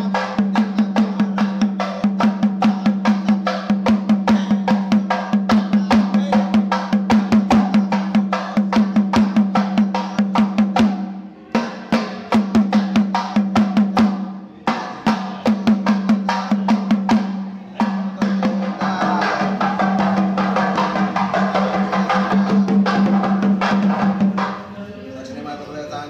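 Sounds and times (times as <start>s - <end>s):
drum beaten in quick rhythm: 0.0s - 24.9s.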